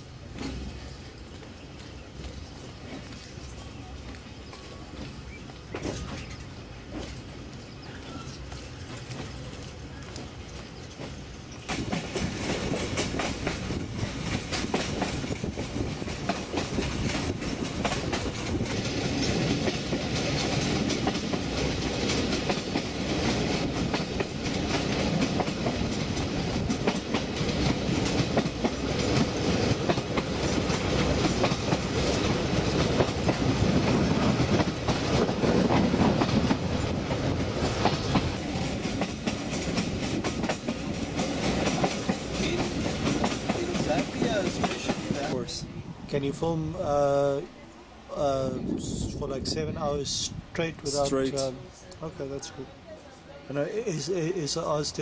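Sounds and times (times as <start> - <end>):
wheels clattering on rails: 0.0 - 45.5
train carriage rumble: 0.0 - 55.0.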